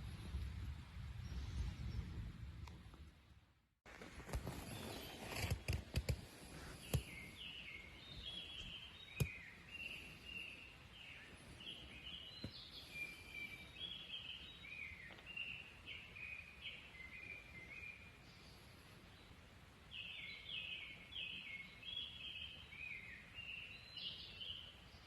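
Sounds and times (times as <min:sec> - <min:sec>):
songbird chirping: 0:04.4 - 0:25.0.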